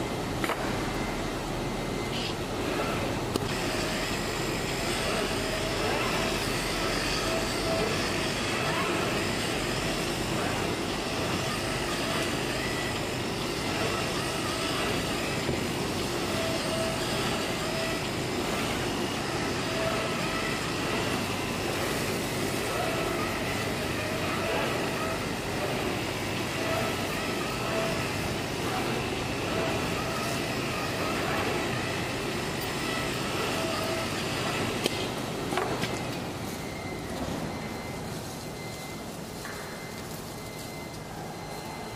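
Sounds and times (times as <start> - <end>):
cutting machine whirring: 0.8 - 36.9.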